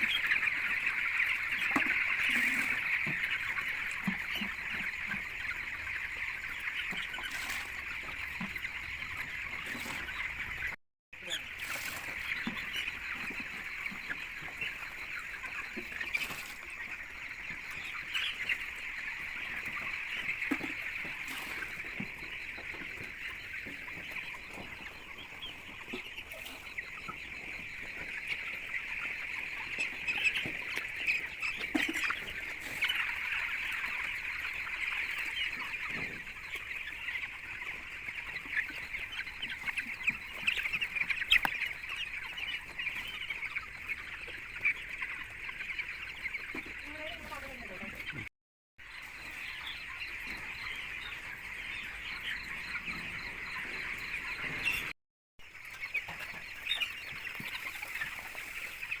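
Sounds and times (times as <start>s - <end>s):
chickens chirping: 0.0s - 59.0s.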